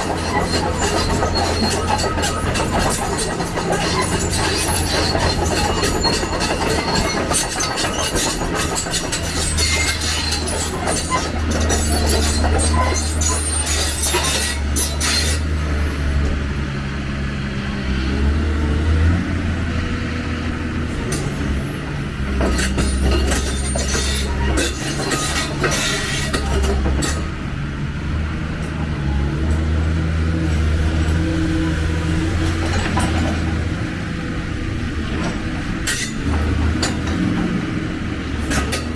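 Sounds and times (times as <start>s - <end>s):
steel tracks clanking and squealing: 0.0s - 16.6s, 20.5s - 38.9s
excavator diesel drone: 0.0s - 38.9s.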